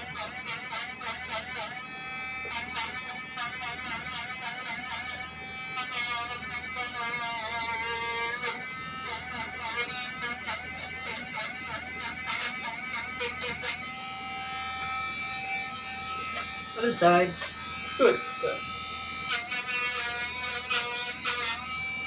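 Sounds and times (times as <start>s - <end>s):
electric clipper buzzing: 0.0s - 22.0s.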